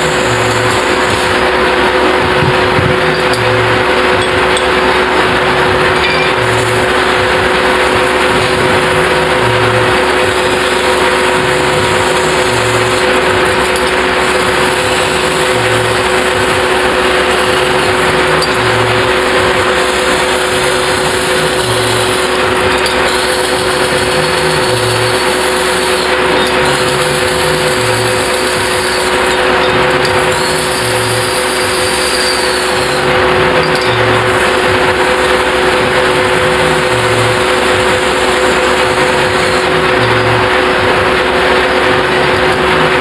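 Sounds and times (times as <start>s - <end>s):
metal spinning lathe rushing noise: 0.0s - 43.0s
steady hums: 0.0s - 43.0s.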